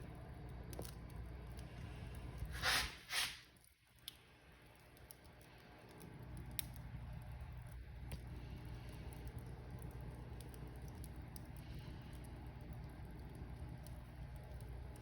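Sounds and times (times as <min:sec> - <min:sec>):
wood fire crackling: 0:00.0 - 0:15.0
fire popping: 0:00.1 - 0:15.0.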